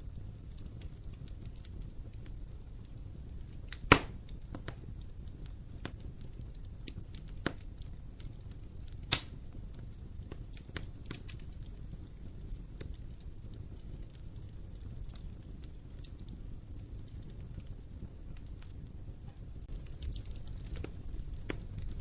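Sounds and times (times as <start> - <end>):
burning wood popping: 0.0 - 22.0
rumble of flames: 0.0 - 22.0
small fire crackles: 0.0 - 22.0.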